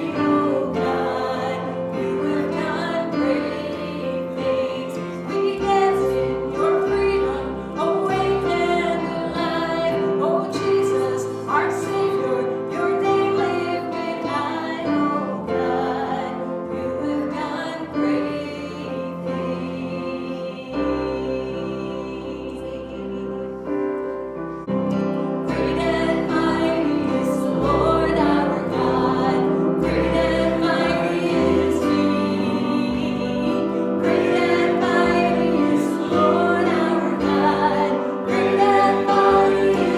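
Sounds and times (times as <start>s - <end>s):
voices singing a hymn: 0.0s - 39.9s.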